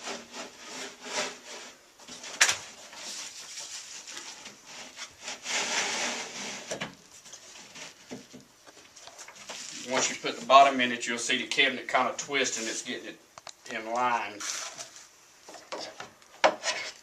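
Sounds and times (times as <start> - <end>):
wood scraping on wood: 0.0 - 10.8, 13.7 - 17.0.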